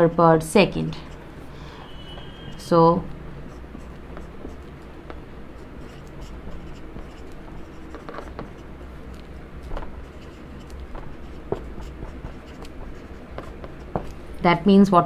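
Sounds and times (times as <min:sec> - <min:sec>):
marker writing on whiteboard: 0:00.9 - 0:14.5.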